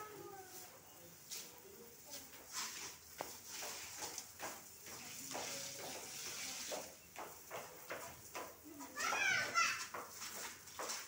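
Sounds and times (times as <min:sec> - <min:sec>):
hose water spraying on mesh: 0:00.0 - 0:11.0.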